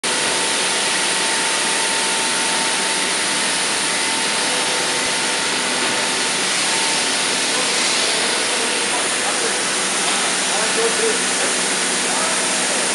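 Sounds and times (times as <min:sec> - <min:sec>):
factory machinery rushing noise: 0:00.1 - 0:12.9.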